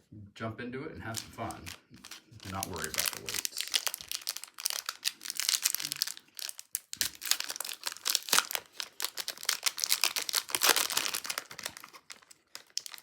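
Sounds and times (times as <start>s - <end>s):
plastic wrapper tearing and crinkling: 1.1s - 13.0s.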